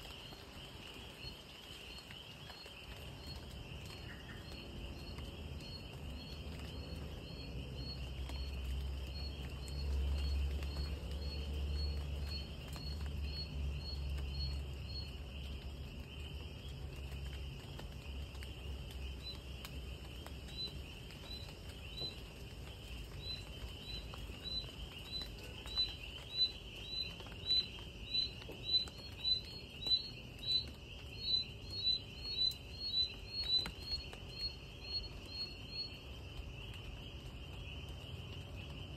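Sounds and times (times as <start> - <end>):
insect chirps: 0.0 - 38.9
cricket trill: 1.2 - 38.9.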